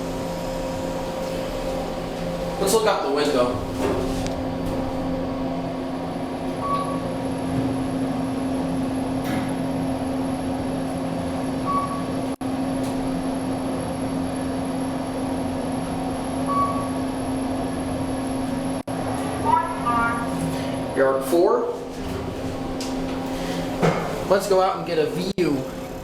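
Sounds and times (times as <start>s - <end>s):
elevator hum: 0.0s - 26.0s.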